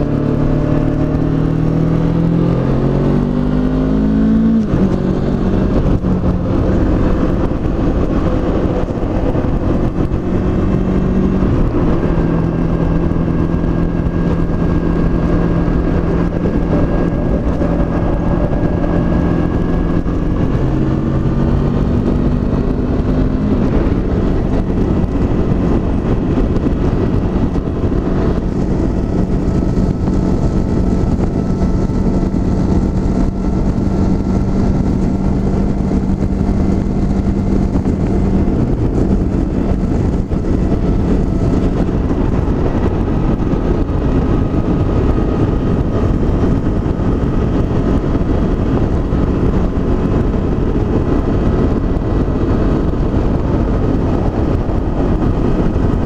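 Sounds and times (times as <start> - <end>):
motorcycle engine running: 0.0 - 56.0
wind rushing: 0.0 - 56.0.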